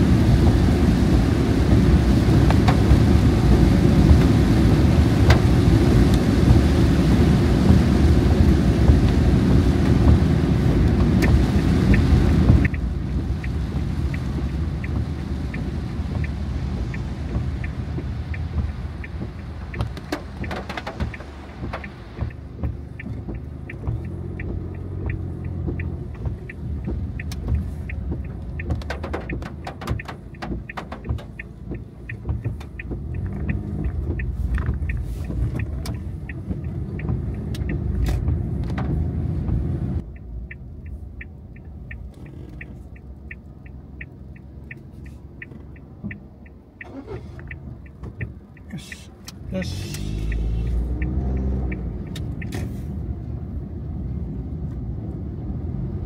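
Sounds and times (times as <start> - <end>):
heavy rain and road noise: 0.0 - 56.0
rain tapping on car: 0.0 - 56.0
turn signal ticking: 0.0 - 56.0.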